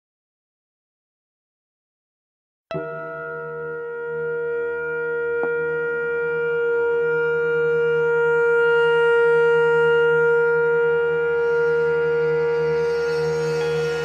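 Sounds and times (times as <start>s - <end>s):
low sustained drone: 2.7s - 14.0s
tenor saxophone long note: 2.7s - 14.0s.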